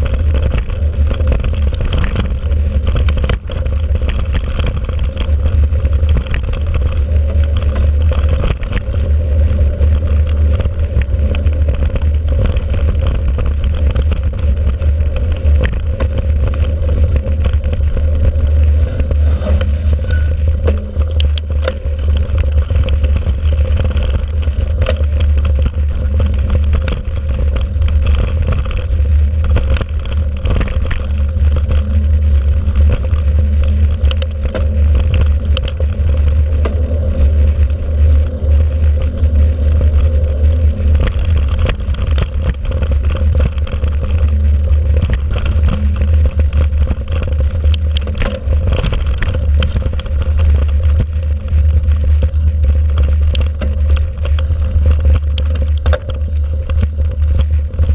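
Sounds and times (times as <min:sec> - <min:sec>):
bike clicks and rattles: 0:00.0 - 0:57.9
wind and rolling rumble: 0:00.0 - 0:57.9.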